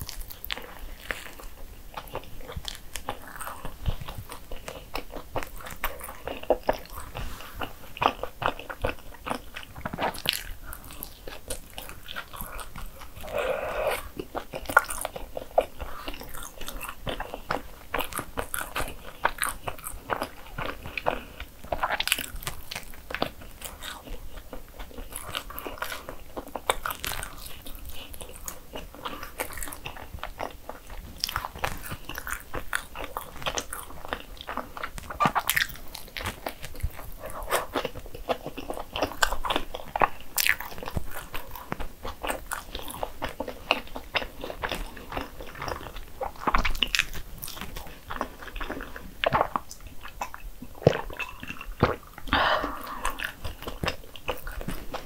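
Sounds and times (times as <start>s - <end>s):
person chewing: 0.0s - 55.0s
biting into bread: 8.0s - 55.0s.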